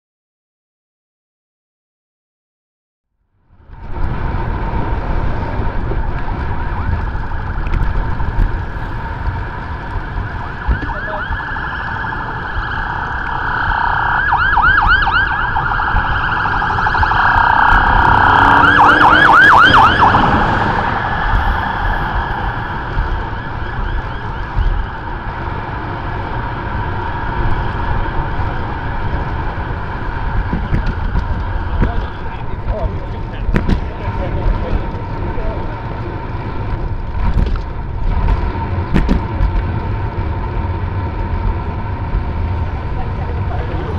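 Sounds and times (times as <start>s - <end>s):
steady low rumble: 3.2s - 43.9s
police sirens wailing: 4.2s - 43.9s.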